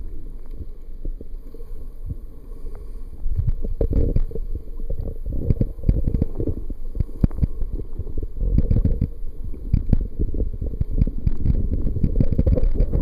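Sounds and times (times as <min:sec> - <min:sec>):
muffled underwater water rumble: 0:00.0 - 0:13.0.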